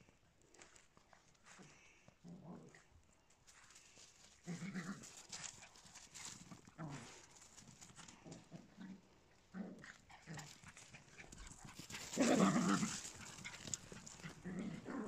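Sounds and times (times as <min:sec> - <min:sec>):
small dogs making low sounds: 0:00.5 - 0:15.0.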